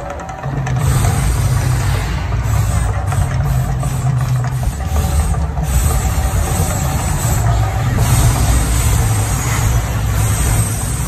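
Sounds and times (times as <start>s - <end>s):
deep rumble: 0.5s - 11.0s
gas flame hiss: 0.8s - 11.0s.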